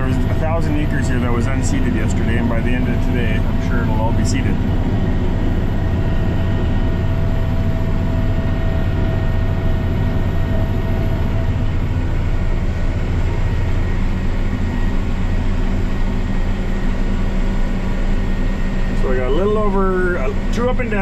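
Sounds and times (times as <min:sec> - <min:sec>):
faint steady whine: 0:00.0 - 0:21.0
tractor engine droning: 0:00.0 - 0:21.0.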